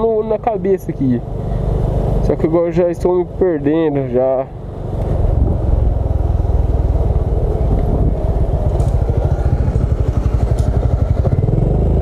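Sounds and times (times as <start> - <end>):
small motorcycle engine running: 0.3 - 12.0.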